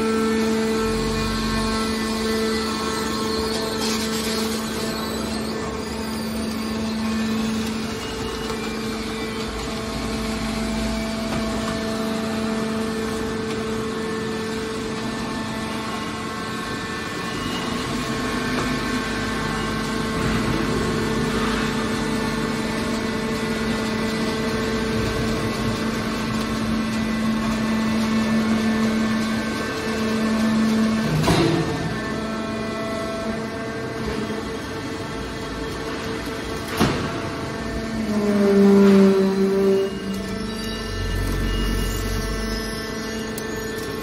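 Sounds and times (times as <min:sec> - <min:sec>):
baler machine hum: 0:00.0 - 0:44.0.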